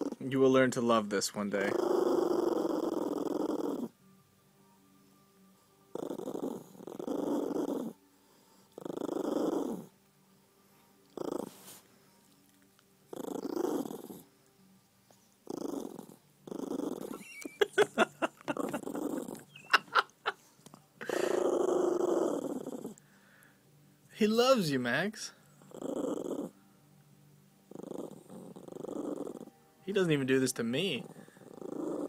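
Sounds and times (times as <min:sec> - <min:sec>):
cat purring: 0:00.0 - 0:04.0, 0:05.7 - 0:10.0, 0:10.9 - 0:14.5, 0:15.1 - 0:23.1, 0:24.3 - 0:26.6, 0:27.6 - 0:32.0.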